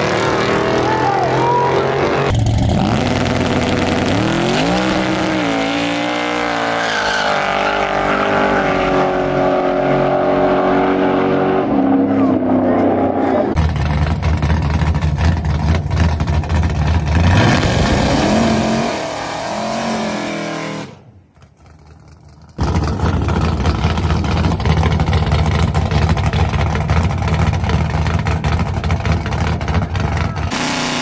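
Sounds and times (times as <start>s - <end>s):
loud car engine revving: 0.0s - 21.1s, 22.6s - 31.0s.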